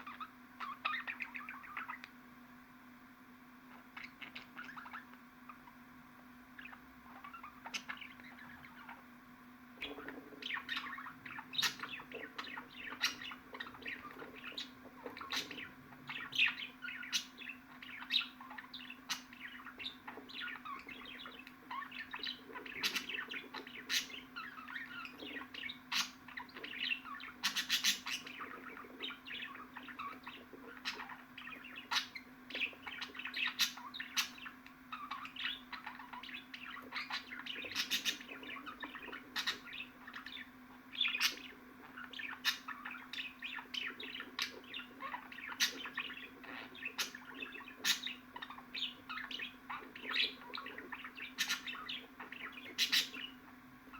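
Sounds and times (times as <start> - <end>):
budgerigars chattering: 0.0 - 2.0, 3.7 - 5.8, 6.6 - 9.0, 9.8 - 53.6
steady low hum: 0.0 - 53.9.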